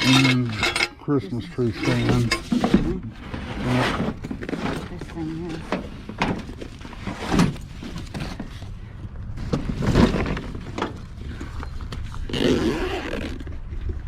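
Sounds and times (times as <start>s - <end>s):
steady low rumble: 0.0s - 12.4s.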